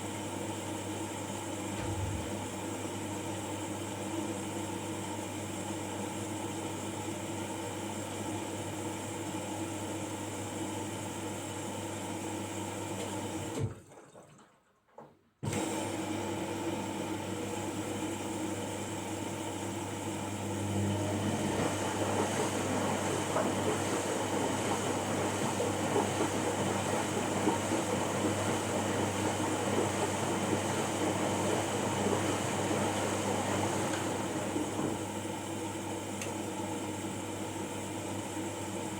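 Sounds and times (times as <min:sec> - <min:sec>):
washing machine hum: 0:00.0 - 0:38.9.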